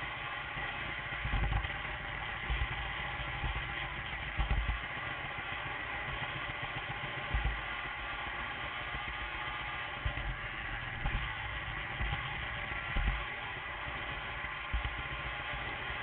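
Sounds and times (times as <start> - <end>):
model train motor hum: 0.0 - 16.0.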